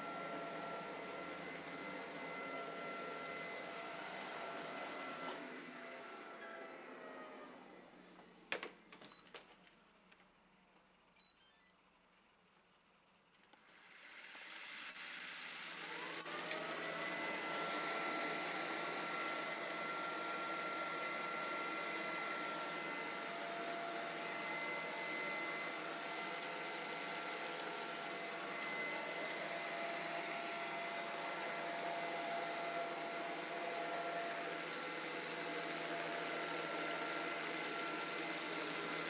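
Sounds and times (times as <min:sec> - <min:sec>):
robot vacuum motor whine: 0:00.0 - 0:09.3, 0:13.6 - 0:39.0.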